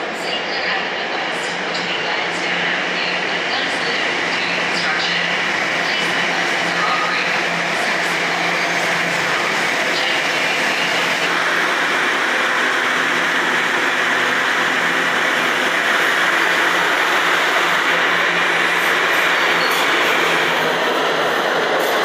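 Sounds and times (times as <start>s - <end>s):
subway train wheels on rail: 0.0s - 22.0s.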